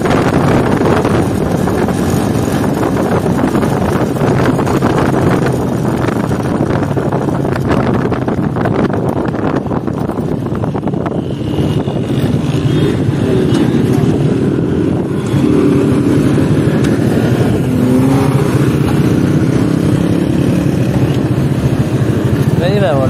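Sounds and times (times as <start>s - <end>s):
motorcycle engine revving: 0.0s - 23.0s
street traffic: 0.0s - 23.0s
wind: 0.0s - 23.0s.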